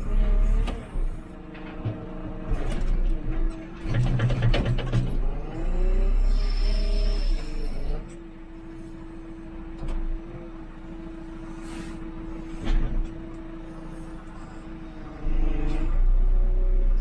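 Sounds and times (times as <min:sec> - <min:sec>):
diesel engine rumble with whine: 0:00.0 - 0:17.0.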